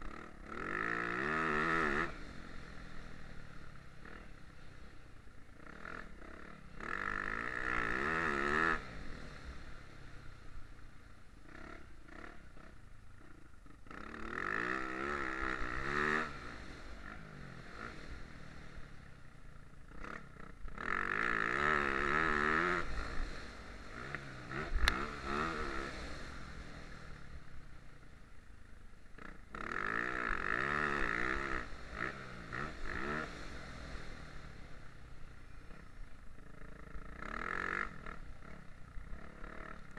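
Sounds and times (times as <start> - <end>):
motocross bike engine revving: 0.0 - 28.1, 28.8 - 39.9.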